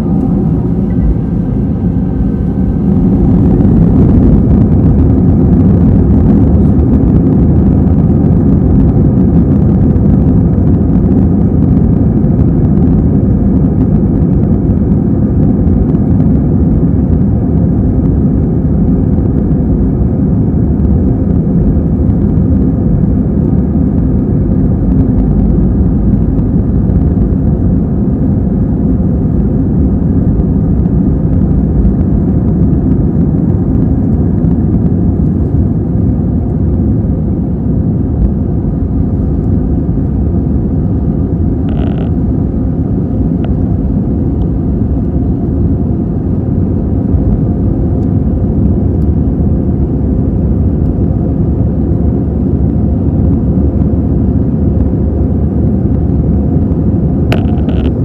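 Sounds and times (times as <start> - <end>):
jet engines roaring: 0.0 - 58.0
undercarriage rumbling on runway: 0.0 - 58.0.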